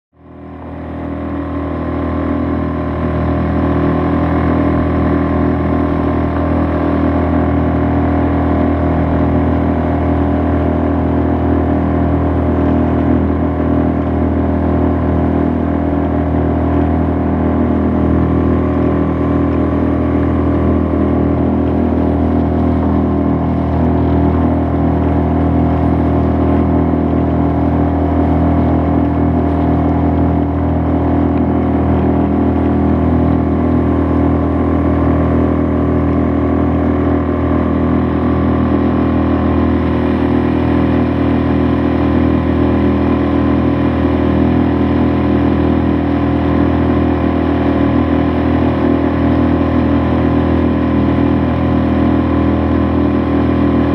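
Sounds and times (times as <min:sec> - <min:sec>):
outboard motor running: 0:00.2 - 0:53.9.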